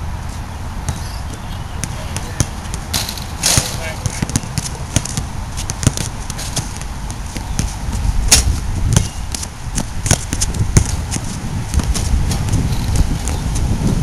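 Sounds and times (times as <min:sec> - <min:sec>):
steady low rumble: 0:00.0 - 0:14.0
basketball bouncing on hard court: 0:01.3 - 0:13.6.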